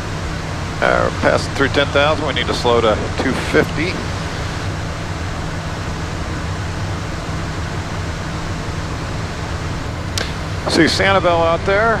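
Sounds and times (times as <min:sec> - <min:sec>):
cockpit airflow rush: 0:00.0 - 0:11.2
low even hum: 0:00.0 - 0:12.0.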